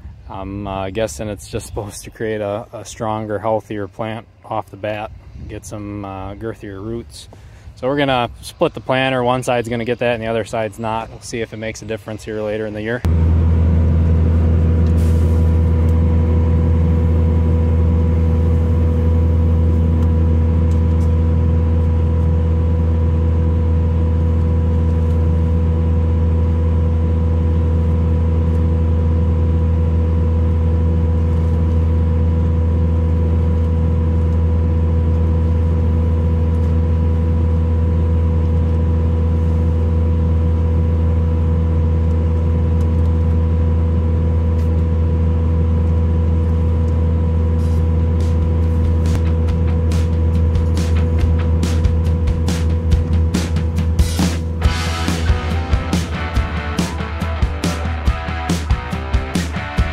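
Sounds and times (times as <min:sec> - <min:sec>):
diesel engine low hum: 0:00.0 - 0:59.9
engine whine: 0:00.0 - 0:59.9.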